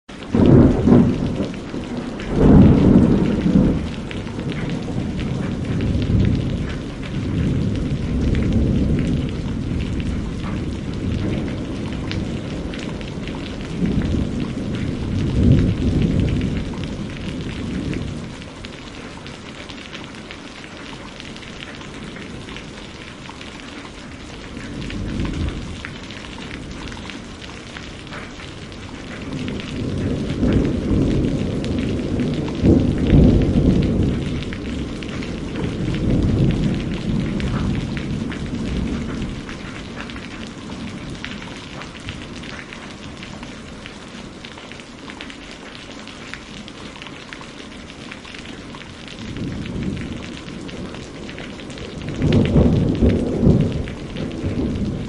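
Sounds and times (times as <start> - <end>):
steady rain falling: 0.0 - 55.0
thunder rumbling: 0.2 - 20.0, 21.2 - 44.6, 45.2 - 55.0.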